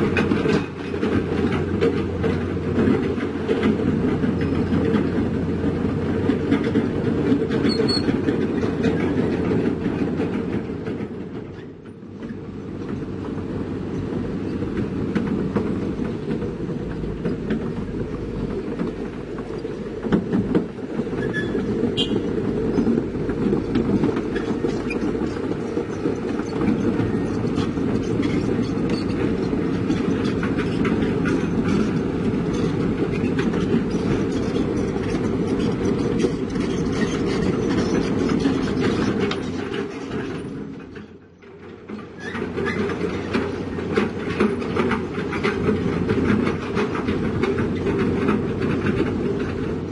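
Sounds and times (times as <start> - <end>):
diesel machinery rumbling: 0.0 - 49.9.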